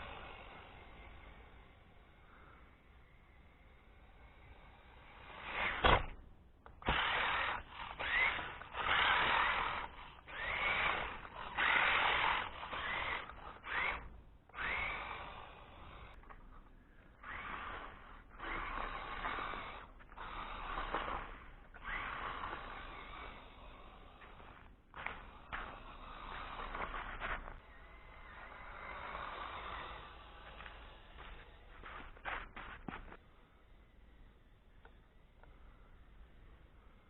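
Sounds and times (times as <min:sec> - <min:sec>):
electric motor whining: 0:00.0 - 0:33.2.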